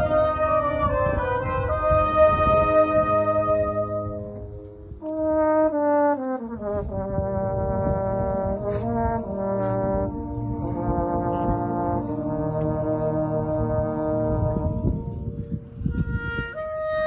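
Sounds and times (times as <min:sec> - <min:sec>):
military brass band playing: 0:00.0 - 0:15.4, 0:16.0 - 0:17.0.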